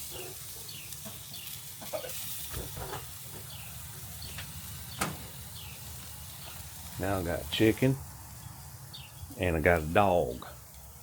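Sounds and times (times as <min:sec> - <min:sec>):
steaks sizzling on a grill: 0:00.0 - 0:11.0.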